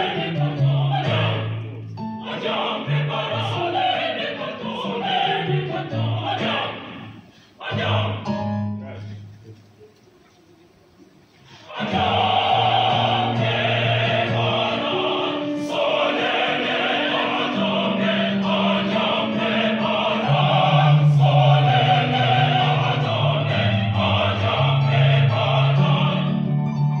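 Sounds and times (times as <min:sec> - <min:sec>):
mixed choir singing chords: 0:00.0 - 0:09.3, 0:11.5 - 0:26.7.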